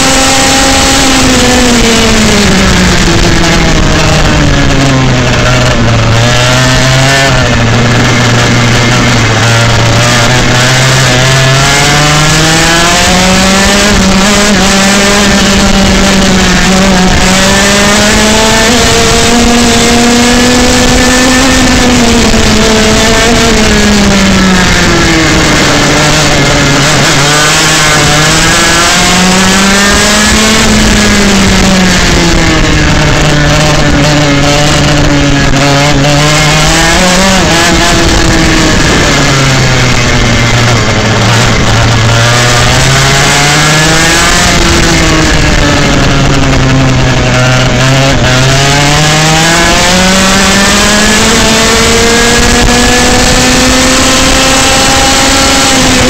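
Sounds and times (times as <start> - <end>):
two-stroke kart engine revving: 0.0 - 56.0.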